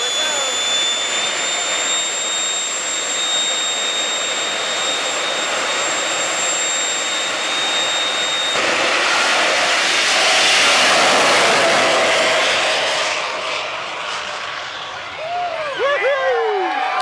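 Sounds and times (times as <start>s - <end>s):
jet engine high whine: 0.0s - 17.0s
jet engine roaring rush: 0.0s - 17.0s.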